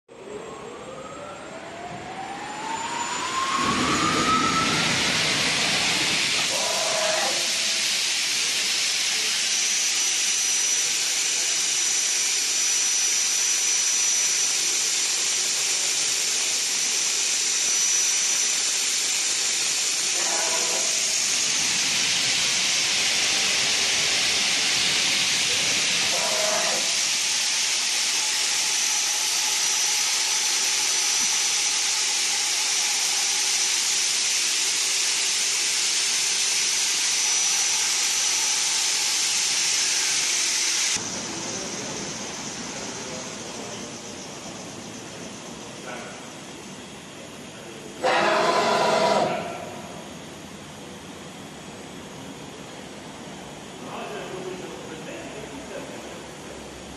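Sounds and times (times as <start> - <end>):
machine spindle whine: 0.1 - 56.9
thin high whine: 0.2 - 50.3
loud steady hissing: 2.8 - 56.9.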